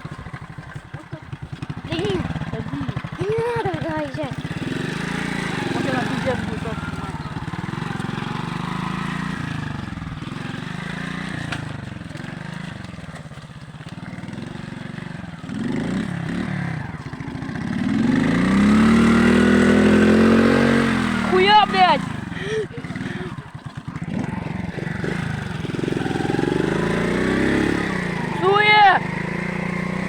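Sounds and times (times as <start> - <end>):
moped engine revving: 0.0 - 30.0.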